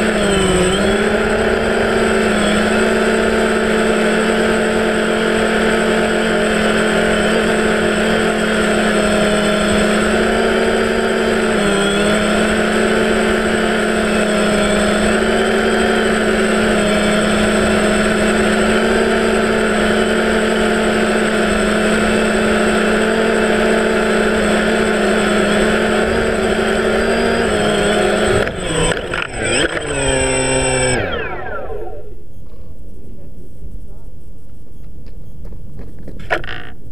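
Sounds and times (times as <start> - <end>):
drone propellers humming: 0.0 - 36.9.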